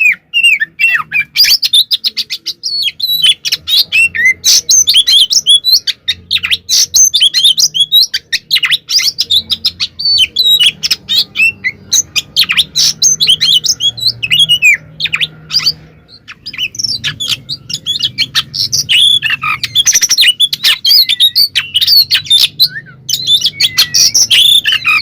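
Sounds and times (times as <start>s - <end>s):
bird singing sharp chirps and whistles: 0.0s - 25.0s.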